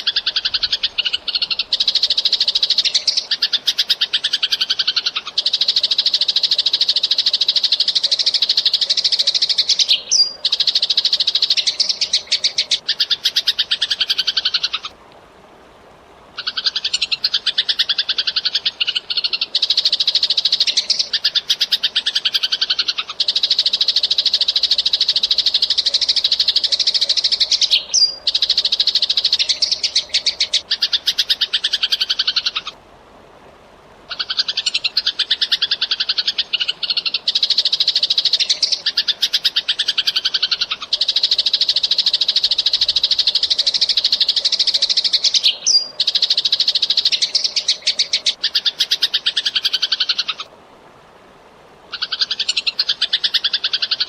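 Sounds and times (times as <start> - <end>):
sparrows chirping: 0.0 - 14.9, 16.4 - 32.7, 34.1 - 50.5.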